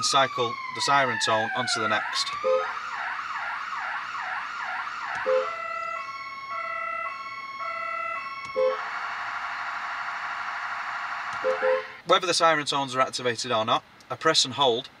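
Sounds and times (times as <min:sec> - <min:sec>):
emergency vehicle siren: 0:00.0 - 0:12.0.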